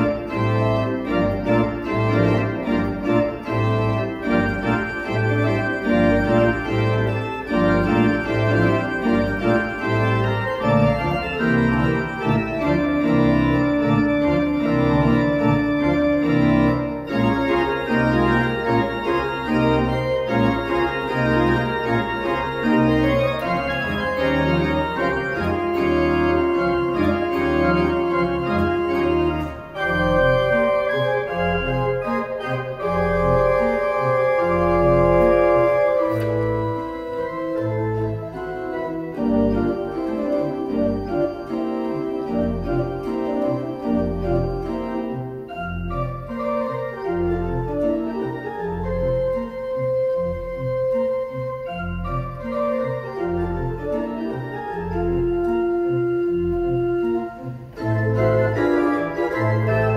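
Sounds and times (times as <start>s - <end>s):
pipe organ playing jazzy melody: 0.0s - 59.9s.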